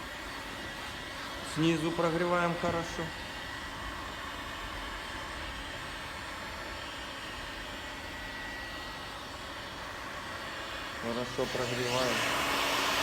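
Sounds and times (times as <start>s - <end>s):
heat gun blowing: 0.0s - 13.0s.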